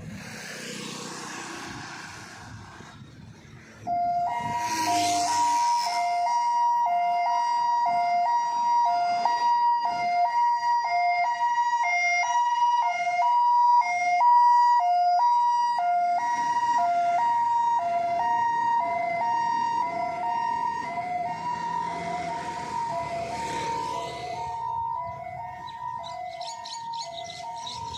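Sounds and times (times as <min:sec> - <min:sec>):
passing vehicle noise: 0:00.0 - 0:10.8, 0:13.7 - 0:27.9
two-tone siren wail: 0:03.8 - 0:27.9.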